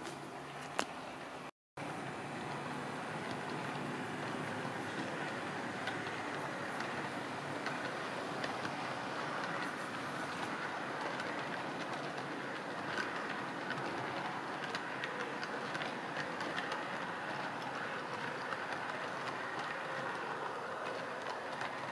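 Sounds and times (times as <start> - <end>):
model train rolling on track: 1.8 - 21.9
wheels clicking over rails: 1.8 - 21.9.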